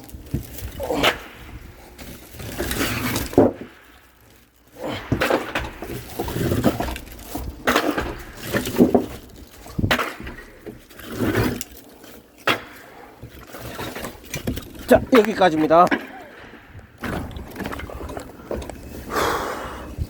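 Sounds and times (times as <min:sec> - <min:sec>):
firewood knocking and clattering: 0:00.0 - 0:11.8, 0:12.4 - 0:18.9.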